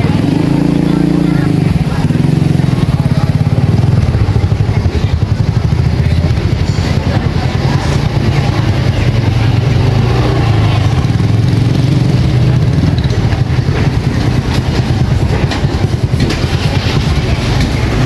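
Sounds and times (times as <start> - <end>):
faint street clatter: 0.0 - 18.0
motorbike engine running: 0.0 - 18.0.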